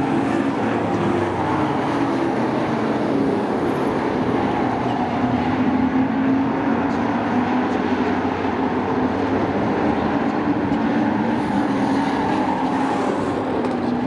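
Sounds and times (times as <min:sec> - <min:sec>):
truck engines racing: 0:00.0 - 0:14.0.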